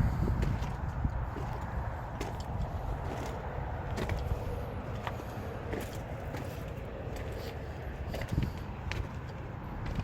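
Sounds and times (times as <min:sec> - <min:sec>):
steady low rumble: 0:00.0 - 0:10.0
footsteps scuffing: 0:00.3 - 0:10.0.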